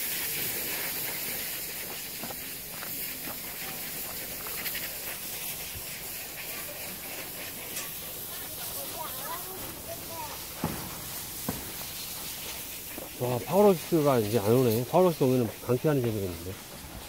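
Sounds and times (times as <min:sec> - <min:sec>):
hissing outdoor background noise: 0:00.0 - 0:17.0.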